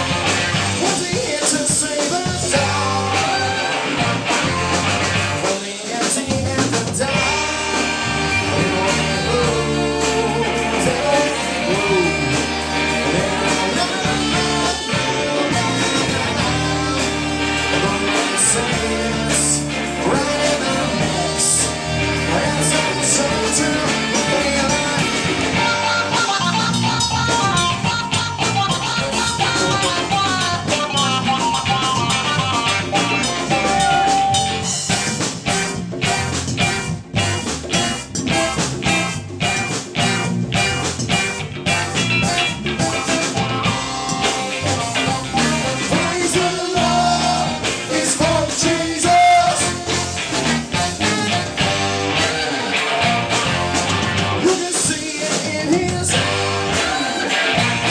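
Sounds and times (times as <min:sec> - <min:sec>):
drum kit beat: 0:00.0 - 0:57.9
electric guitar: 0:00.0 - 0:57.9
saxophone: 0:07.1 - 0:48.0, 0:48.6 - 0:54.4.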